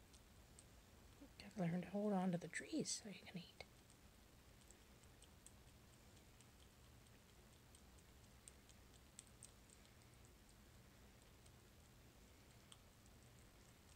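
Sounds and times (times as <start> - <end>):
squirrel gnawing food clicks: 0.0 - 1.3, 3.6 - 13.9.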